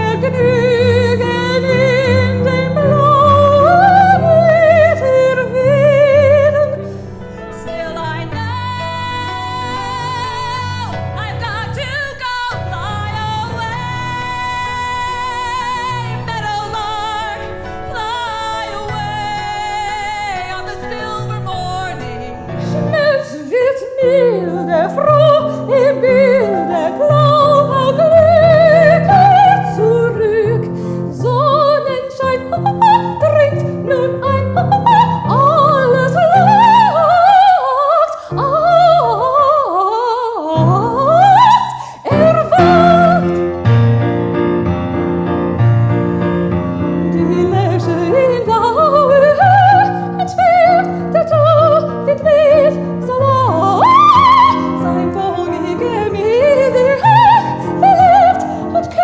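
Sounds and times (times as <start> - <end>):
woman singing classical trills: 0.0 - 44.0, 45.6 - 59.0
piano accompaniment: 0.0 - 59.0.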